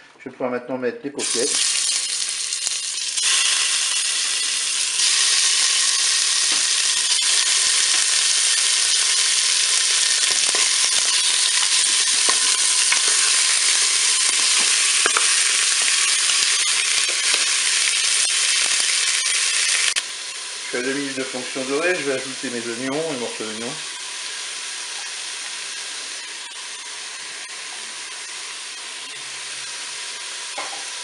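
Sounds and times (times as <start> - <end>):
meat sizzling in hot oil: 1.2 - 31.0.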